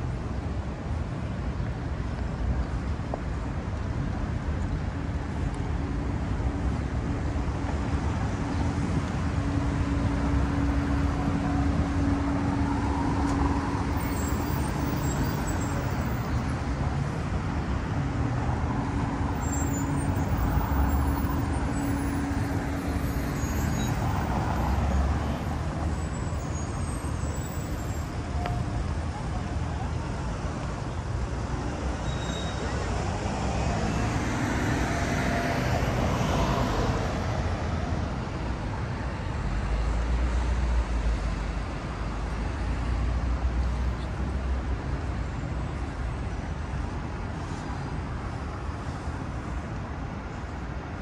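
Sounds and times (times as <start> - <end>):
vehicles passing: 0.0 - 51.0.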